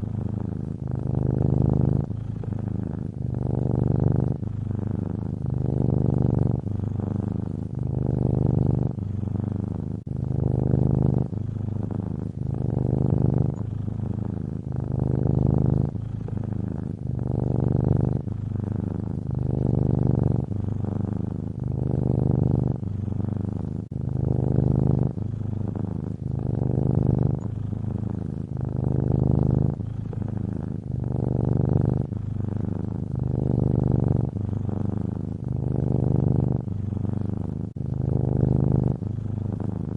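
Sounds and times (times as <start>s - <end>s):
cat snoring: 0.0s - 39.9s.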